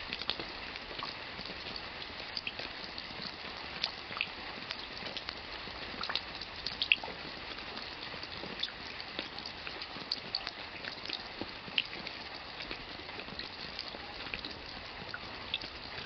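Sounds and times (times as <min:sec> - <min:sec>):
rain falling: 0:00.0 - 0:16.0
raindrops landing: 0:00.0 - 0:16.0.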